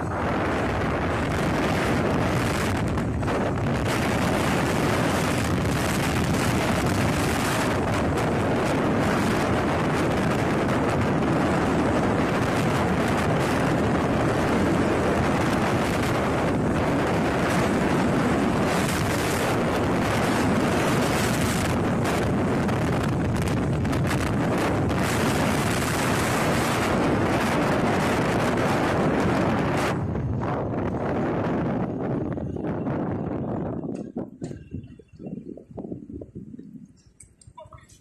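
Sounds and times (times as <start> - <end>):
motorcycle running: 0.0 - 36.9
wind rush over microphone: 0.0 - 38.0.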